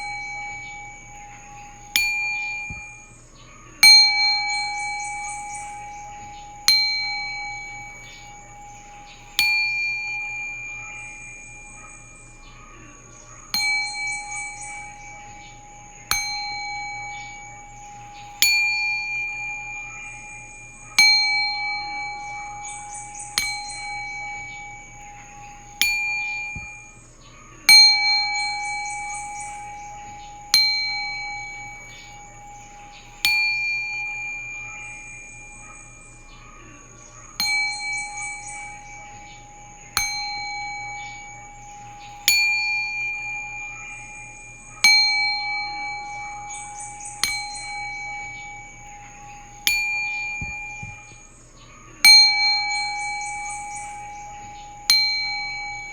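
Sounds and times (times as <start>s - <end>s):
singing bowl ringing: 0.0s - 55.9s.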